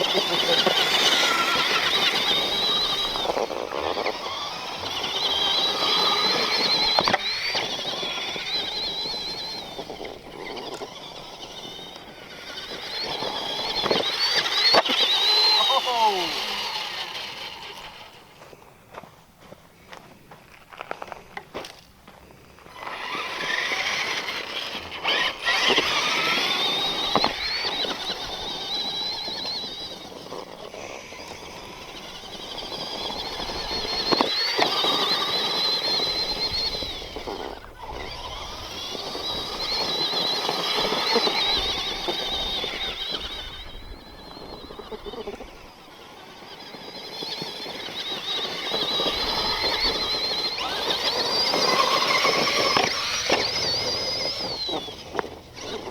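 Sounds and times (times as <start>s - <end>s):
toy truck motor whining: 0.0s - 18.7s, 21.4s - 55.9s
tyres on ground: 0.0s - 55.9s.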